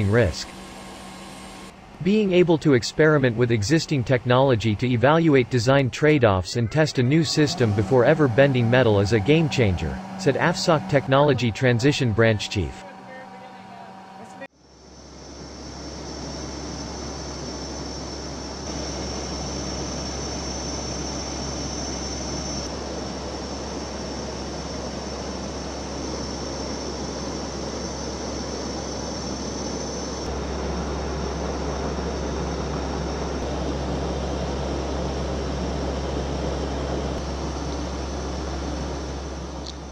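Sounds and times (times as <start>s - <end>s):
air noise: 0.0s - 39.9s
high thin whine: 0.0s - 39.9s
turboprop engine drone: 0.0s - 39.9s.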